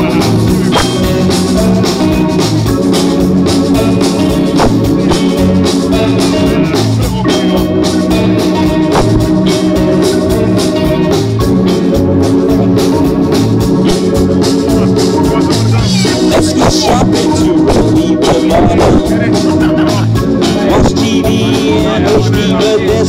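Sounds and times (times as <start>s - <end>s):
electric guitar: 0.0s - 23.0s
live band music: 0.0s - 23.0s
organ-toned keyboard: 0.0s - 23.0s
steady beat: 0.0s - 23.0s.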